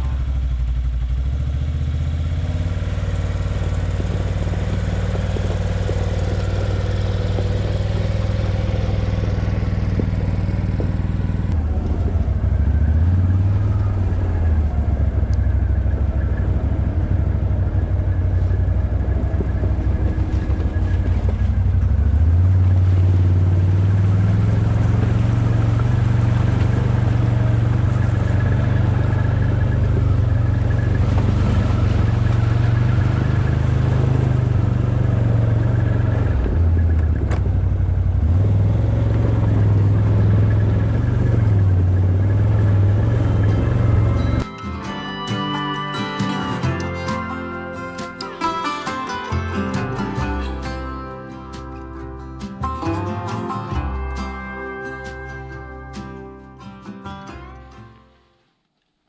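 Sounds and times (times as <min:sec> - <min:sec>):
vehicle engine running: 0:00.0 - 0:57.8.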